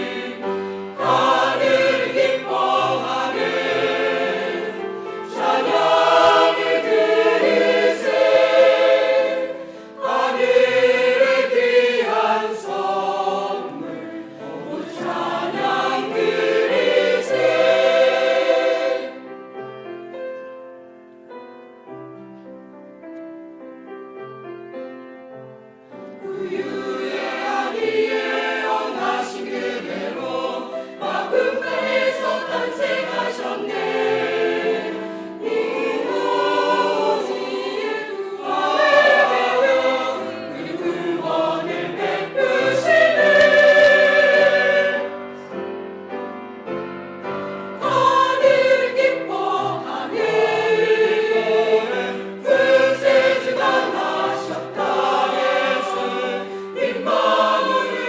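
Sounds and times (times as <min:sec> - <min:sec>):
choir singing: 0:00.0 - 0:19.4, 0:26.1 - 0:45.8, 0:47.2 - 0:58.0
piano accompaniment: 0:00.0 - 0:58.0.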